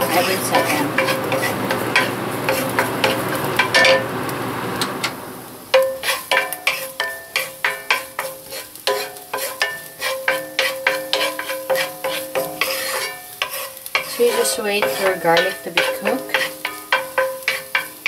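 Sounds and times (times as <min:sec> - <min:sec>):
wooden spoon knocking on pan: 0:00.0 - 0:04.1, 0:05.8 - 0:18.0
garlic sizzling in oil: 0:00.0 - 0:18.0.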